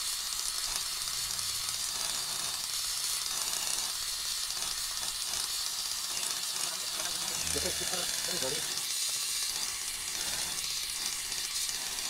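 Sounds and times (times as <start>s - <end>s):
welding sizzle: 0.0s - 12.0s.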